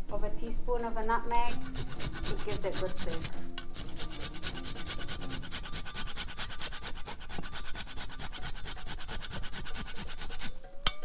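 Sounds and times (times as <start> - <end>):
spoon stirring filling in a bowl: 1.5 - 10.7.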